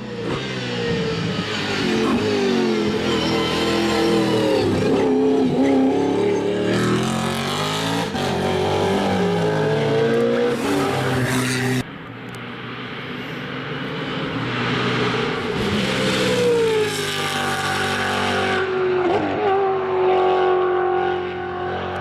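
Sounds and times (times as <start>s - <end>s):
distant engine: 0.0s - 22.0s
race car engine revving: 0.0s - 22.0s.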